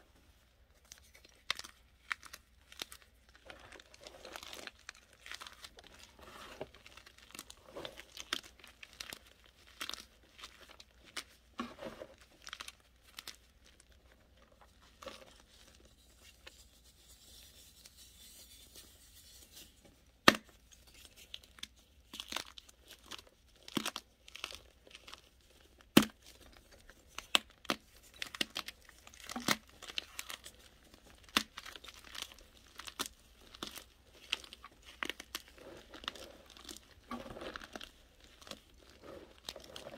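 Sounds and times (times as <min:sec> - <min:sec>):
hands crushing chalky powder: 0:00.7 - 0:39.9.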